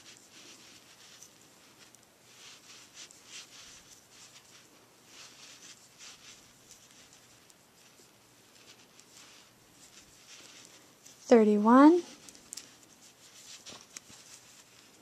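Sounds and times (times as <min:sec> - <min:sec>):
crochet hook drawing yarn: 0:00.0 - 0:14.9.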